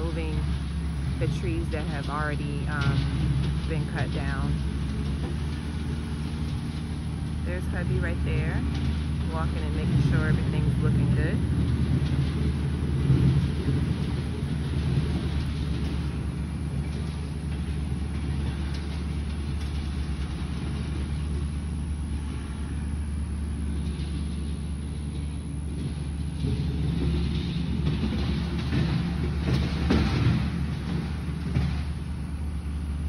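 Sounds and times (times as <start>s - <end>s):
engine running at low speed: 0.0s - 33.0s.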